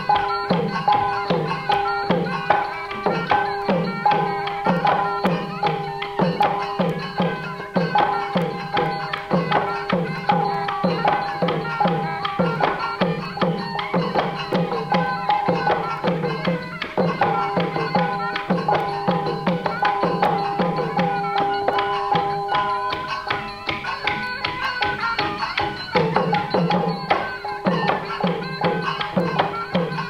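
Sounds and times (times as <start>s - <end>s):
hand drums beating: 0.0s - 30.0s
steady held tone: 0.0s - 30.0s.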